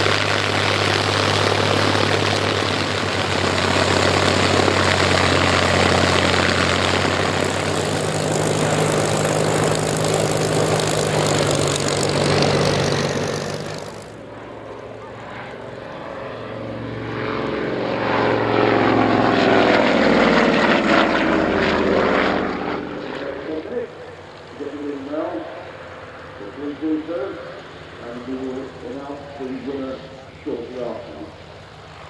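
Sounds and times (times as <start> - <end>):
propeller aircraft flying overhead: 0.0 - 32.0
propeller plane engine running: 0.0 - 32.0.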